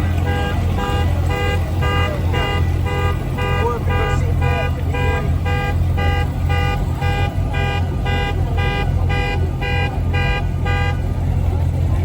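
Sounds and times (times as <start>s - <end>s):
car horn beeping: 0.0s - 11.4s
car engines rumbling: 0.0s - 12.0s.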